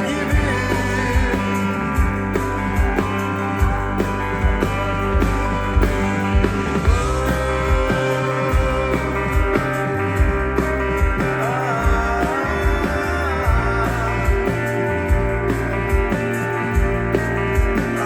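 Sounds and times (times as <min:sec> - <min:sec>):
bass: 0:00.0 - 0:18.0
drum beat: 0:00.0 - 0:18.0
guitar lead melody: 0:00.0 - 0:18.0.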